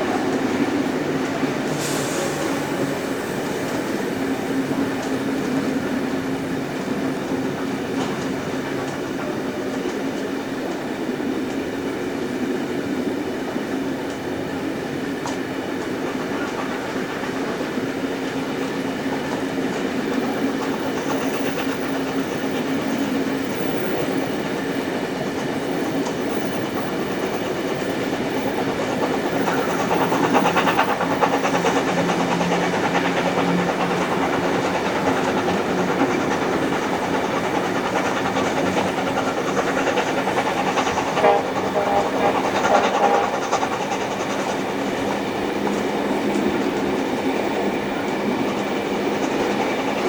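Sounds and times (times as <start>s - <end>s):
train wheels running on rails: 0.0s - 50.0s.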